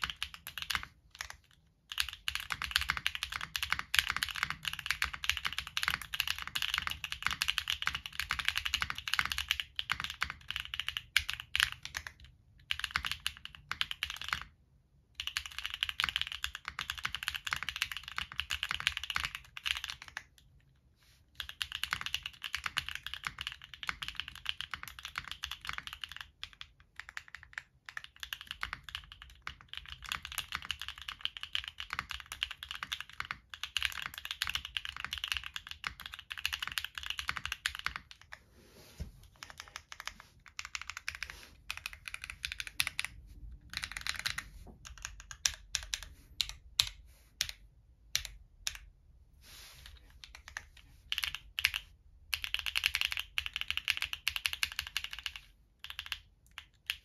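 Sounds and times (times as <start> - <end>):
mechanical keyboard typing: 0.0 - 20.5, 21.4 - 38.4, 39.2 - 48.9, 50.2 - 57.0.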